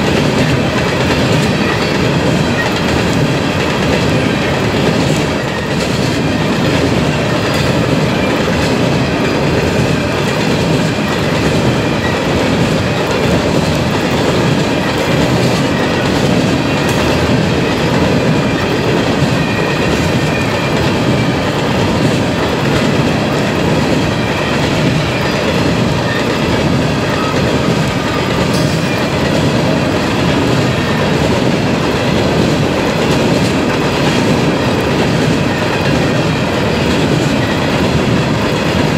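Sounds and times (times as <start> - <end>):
steel wheels rumbling on rail: 0.0 - 38.9
wheels clacking over rail joints: 0.0 - 38.9.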